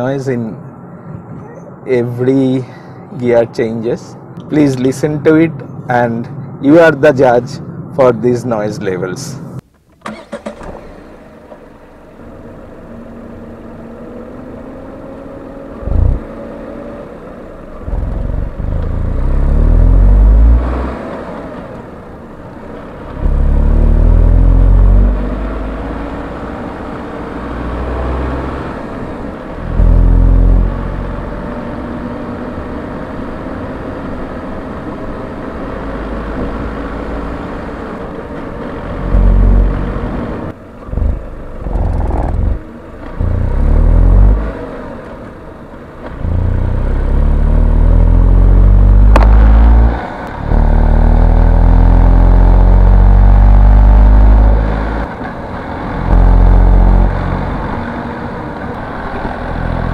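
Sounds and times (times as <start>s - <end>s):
car engine revving: 10.1s - 59.9s.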